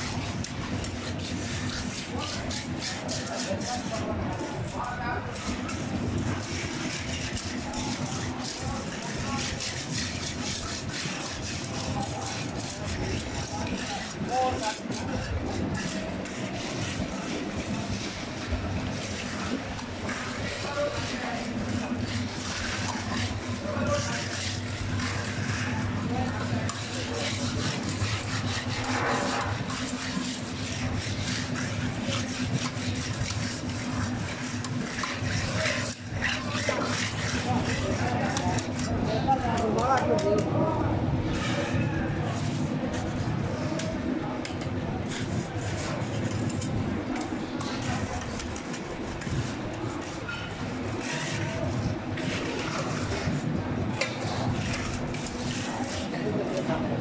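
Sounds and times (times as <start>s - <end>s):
trowel scraping wet concrete: 0.0s - 57.0s.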